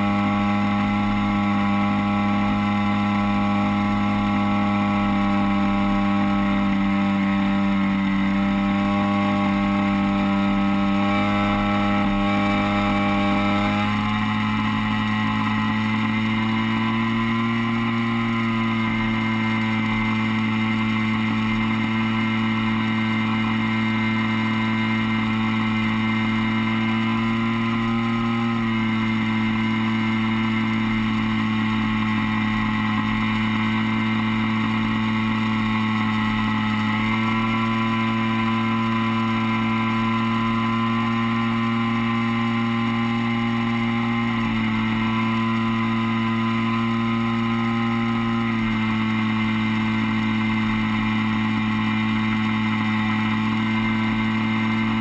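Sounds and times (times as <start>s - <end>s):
model plane engine running: 0.0s - 55.0s.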